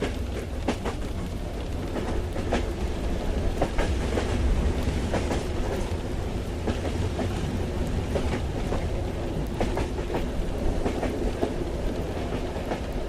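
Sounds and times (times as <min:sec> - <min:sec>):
train rumbling in motion: 0:00.0 - 0:13.0.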